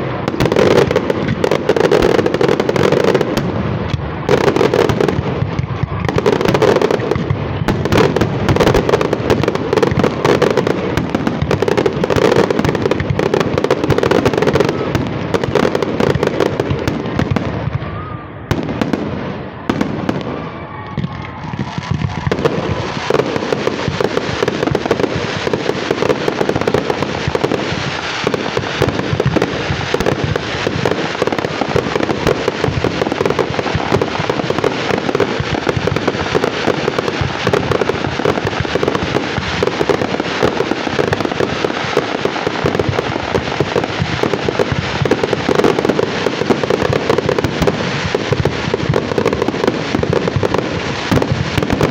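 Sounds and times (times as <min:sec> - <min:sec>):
fireworks bangs and crackling: 0:00.0 - 0:51.9.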